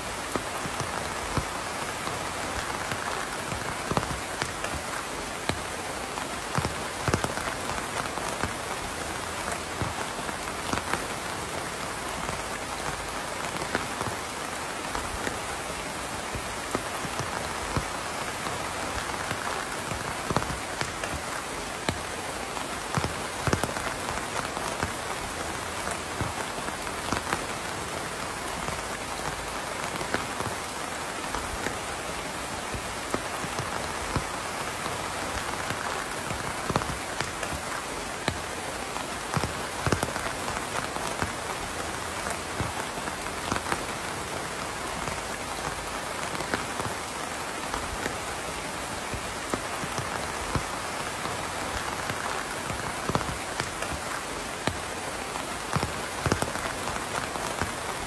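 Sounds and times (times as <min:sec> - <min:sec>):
steady rain falling: 0:00.0 - 0:58.0
raindrops tapping on hard surface: 0:00.1 - 0:58.0.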